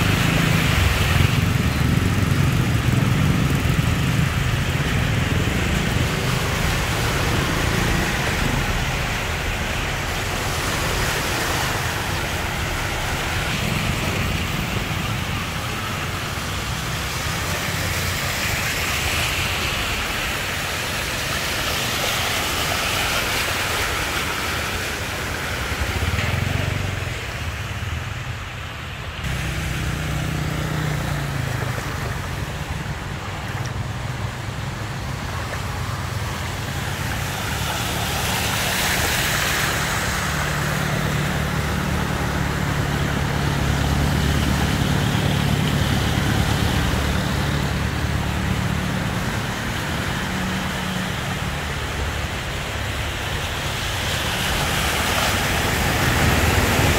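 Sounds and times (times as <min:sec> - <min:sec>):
engine hum: 0:00.0 - 0:56.9
tyres splashing through water: 0:00.0 - 0:56.9.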